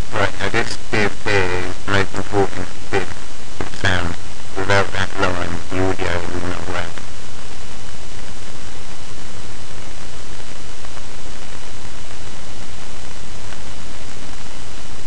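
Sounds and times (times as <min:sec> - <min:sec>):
microphone hiss and static: 0:00.0 - 0:15.0.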